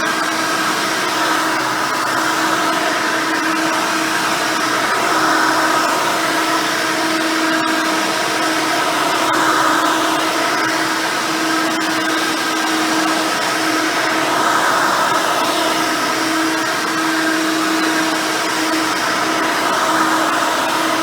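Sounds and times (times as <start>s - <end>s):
vacuum cleaner running on carpet: 0.0s - 21.0s.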